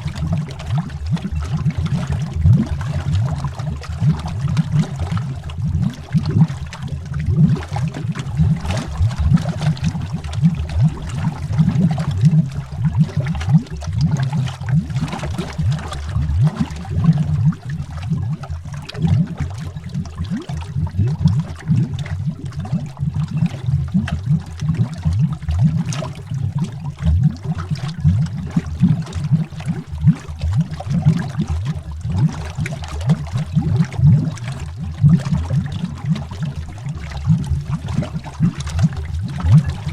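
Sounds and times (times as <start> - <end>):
air bubbles underwater: 0.0 - 39.9.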